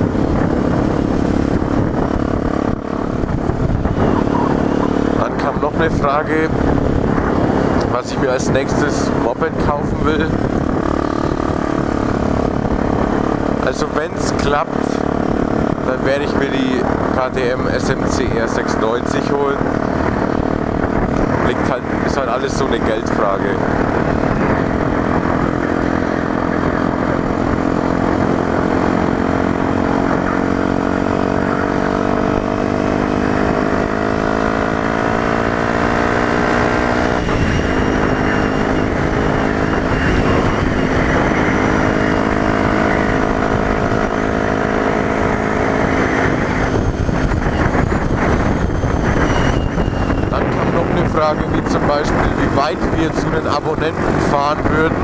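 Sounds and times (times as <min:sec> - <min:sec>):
motorcycle engine: 0:00.0 - 0:55.0
wind rush: 0:00.0 - 0:55.0.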